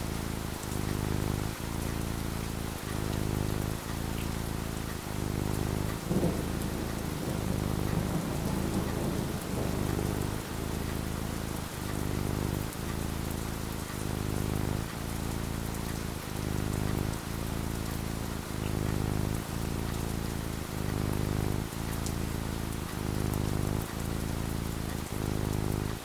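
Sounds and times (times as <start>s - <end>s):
steady rain falling: 0.0s - 26.0s
low rumble of thunder: 4.8s - 26.0s.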